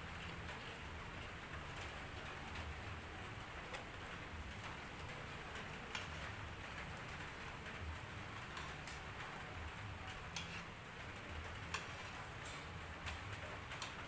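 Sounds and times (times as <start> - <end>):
light drizzle falling: 0.0 - 14.0.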